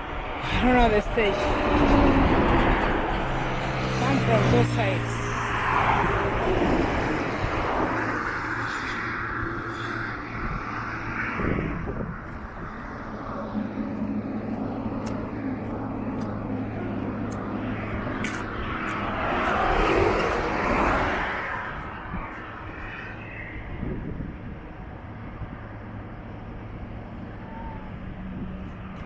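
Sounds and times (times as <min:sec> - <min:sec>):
traffic engine hum: 0:00.0 - 0:29.0
vehicle passing: 0:00.1 - 0:24.2.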